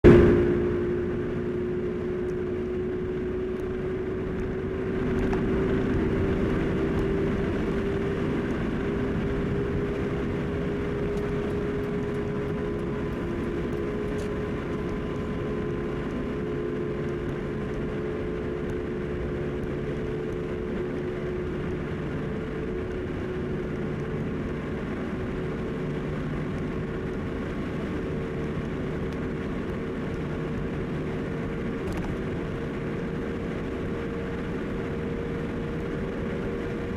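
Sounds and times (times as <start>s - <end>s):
car engine drone: 0.0s - 36.9s
rising hum: 0.0s - 36.9s
road and tyre noise: 0.0s - 36.9s.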